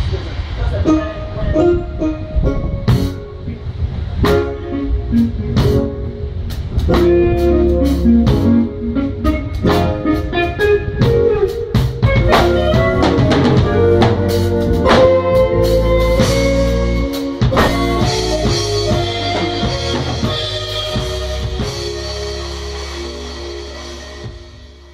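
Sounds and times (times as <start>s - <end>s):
drum kit: 0.0s - 24.9s
guitar: 0.0s - 24.9s
keyboard bass line: 0.0s - 24.9s
keyboard chords: 0.0s - 24.9s.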